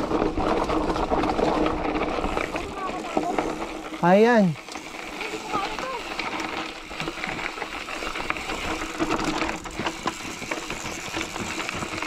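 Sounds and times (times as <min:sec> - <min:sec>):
bike rattling over rough ground: 0:00.0 - 0:12.0
bicycle freewheel ticking: 0:00.1 - 0:12.0.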